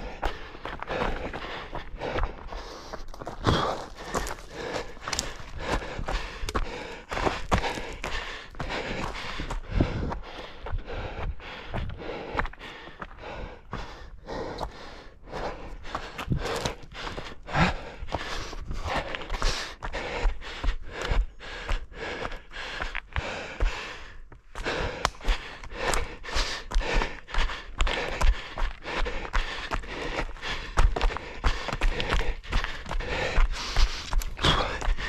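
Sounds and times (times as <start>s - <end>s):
runner breathing hard: 0.0s - 35.0s
running footsteps on forest ground: 0.0s - 35.0s.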